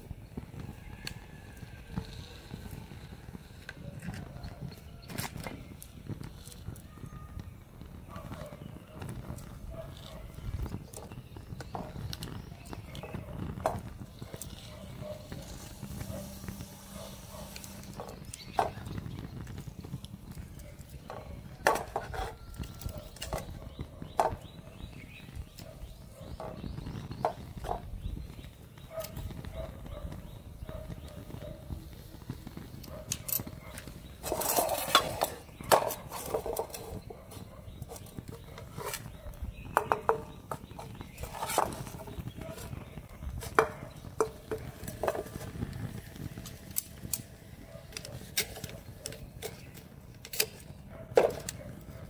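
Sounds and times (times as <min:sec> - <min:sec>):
burning plastic crackling and popping: 0:00.0 - 0:52.0
low rumble of fire: 0:00.0 - 0:52.0.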